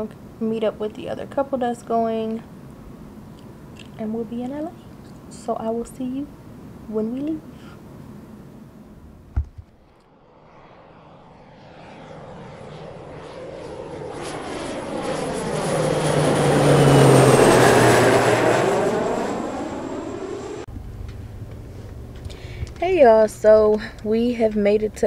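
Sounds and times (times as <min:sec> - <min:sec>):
jet airliner flying overhead: 0:00.0 - 0:09.2, 0:09.8 - 0:24.9.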